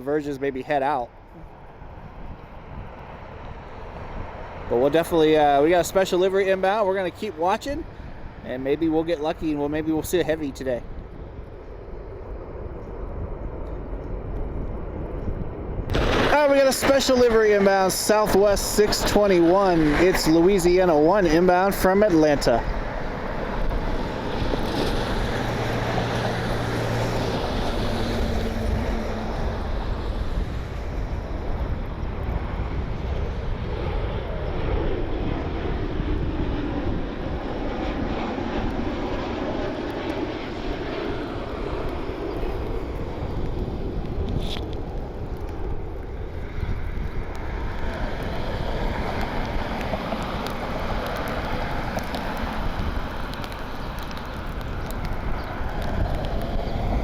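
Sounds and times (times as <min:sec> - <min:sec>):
jet airliner passing: 0:00.0 - 0:57.0.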